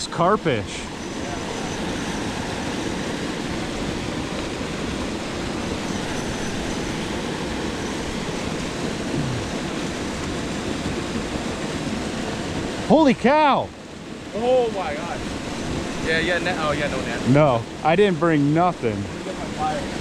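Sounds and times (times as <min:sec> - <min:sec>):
water rushing from spillway: 0:00.0 - 0:20.0.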